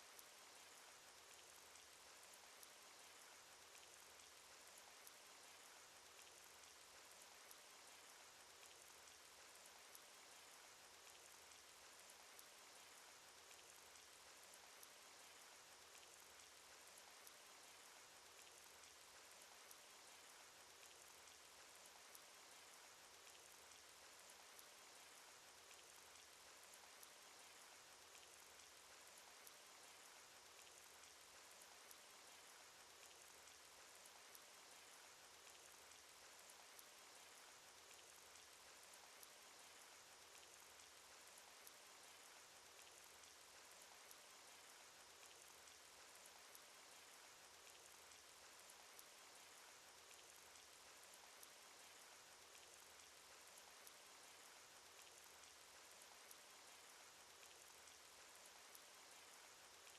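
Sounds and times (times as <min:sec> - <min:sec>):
rain hiss: 0:00.0 - 0:59.9.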